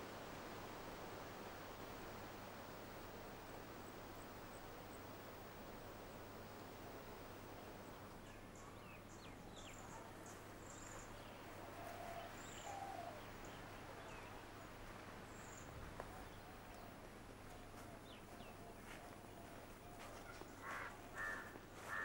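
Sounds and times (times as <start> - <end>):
faint birdsong: 0.0 - 22.0
steady low hiss: 0.0 - 22.0.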